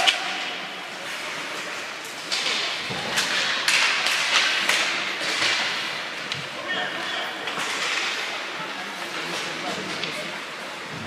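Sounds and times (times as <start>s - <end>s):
hockey sticks and puck knocking: 0.0s - 10.6s.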